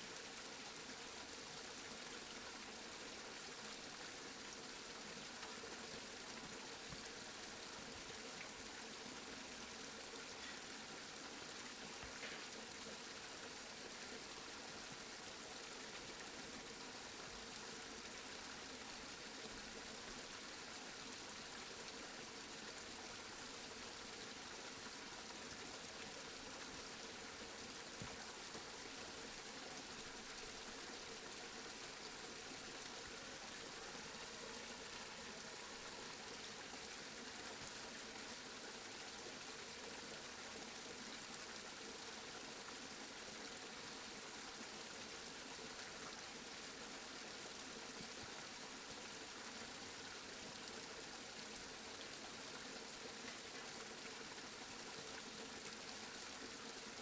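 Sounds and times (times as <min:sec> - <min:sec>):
steady rain hiss: 0:00.0 - 0:48.4.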